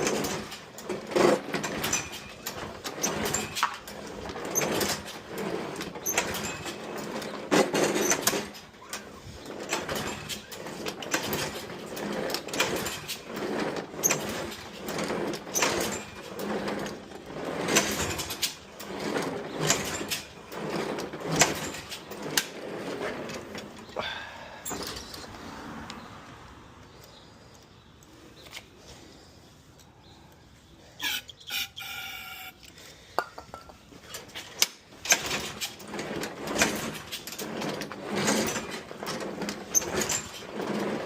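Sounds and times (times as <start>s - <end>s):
lawn mower recoil starter pulls: 0.0s - 25.4s, 31.0s - 32.8s, 34.0s - 41.0s.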